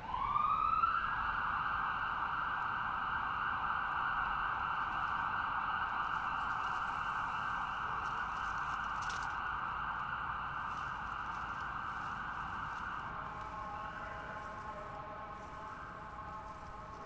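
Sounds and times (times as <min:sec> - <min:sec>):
distant ambulance siren: 0:00.0 - 0:17.0.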